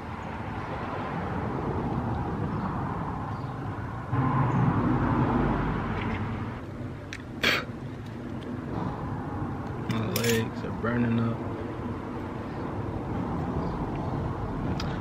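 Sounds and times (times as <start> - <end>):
outdoor traffic noise: 0.0 - 15.0
vehicle passing with low rumble: 0.0 - 15.0.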